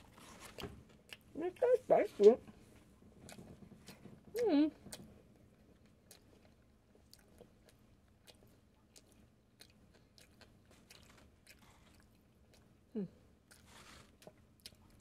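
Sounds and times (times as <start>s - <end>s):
chewing crispy food: 0.0s - 2.2s, 2.8s - 15.0s.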